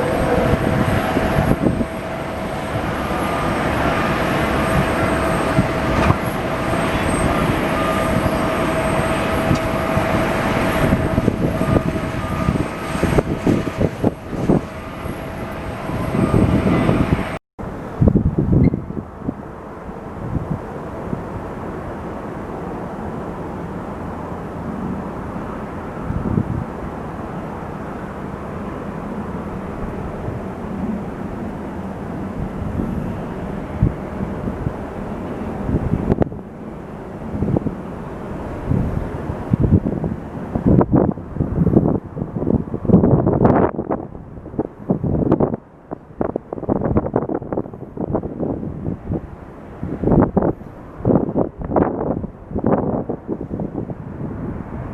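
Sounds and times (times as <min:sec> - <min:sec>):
jet engines rumbling and whining: 0:00.0 - 0:54.9.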